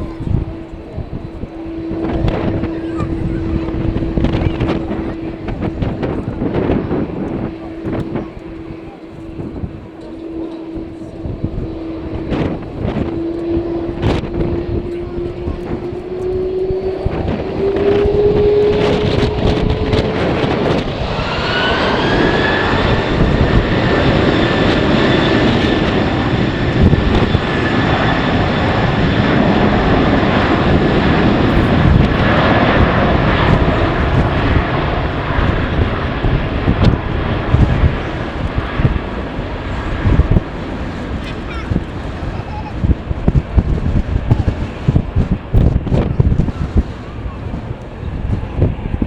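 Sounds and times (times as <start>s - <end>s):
jet engines spooling up: 0.0s - 49.0s
wind gusts on microphone: 0.0s - 49.0s.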